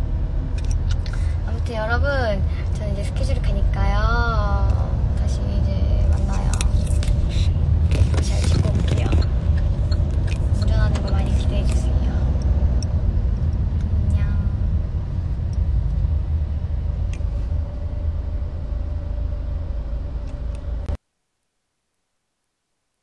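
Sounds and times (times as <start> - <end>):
car interior rumble: 0.0 - 21.0.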